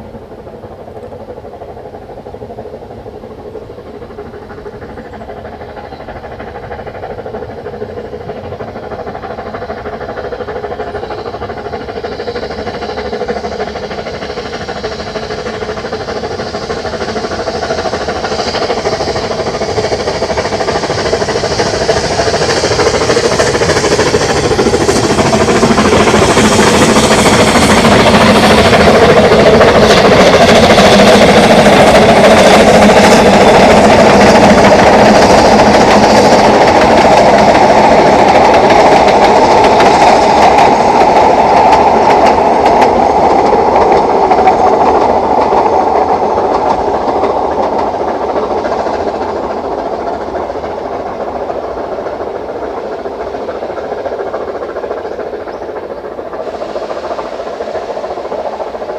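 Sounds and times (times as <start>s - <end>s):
train wheels clattering over rails: 0.0s - 58.9s.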